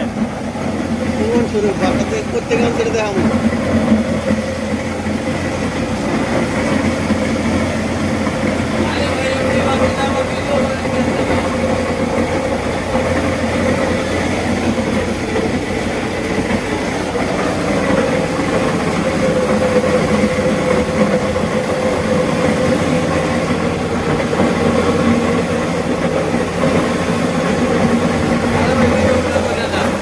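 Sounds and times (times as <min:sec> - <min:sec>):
spice mill motor hum and rattle: 0:00.0 - 0:30.0.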